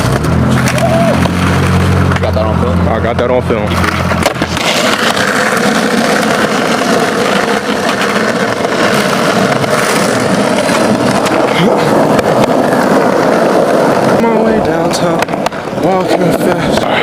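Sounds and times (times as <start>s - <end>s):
skateboard wheels rolling on pavement: 0.0s - 17.0s.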